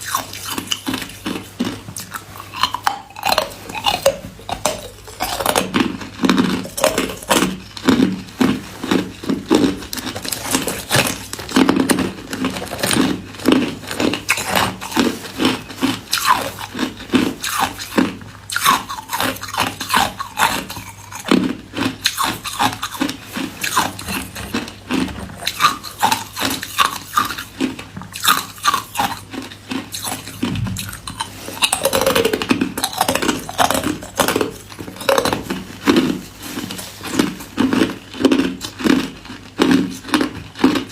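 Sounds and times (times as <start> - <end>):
ice cubes being chewed: 0.0 - 40.9.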